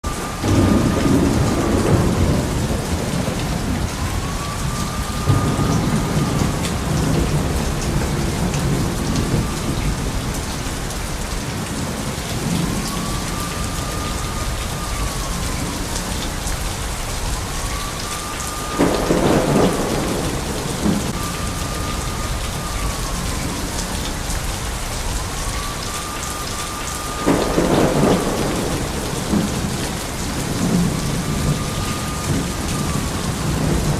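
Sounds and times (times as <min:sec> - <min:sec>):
heavy rainfall: 0:00.0 - 0:33.9
rolling thunder: 0:00.0 - 0:33.9.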